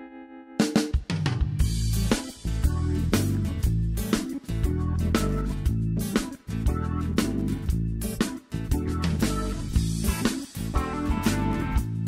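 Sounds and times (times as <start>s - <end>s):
bass guitar: 0.0s - 12.0s
rock drum kit beat: 0.6s - 12.0s.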